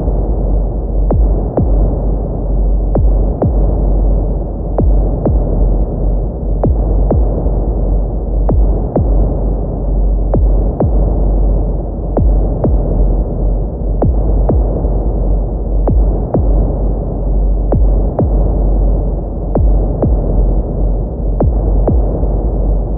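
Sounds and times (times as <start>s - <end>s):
deep rumbling drone: 0.0s - 22.9s
heartbeat: 0.0s - 22.9s.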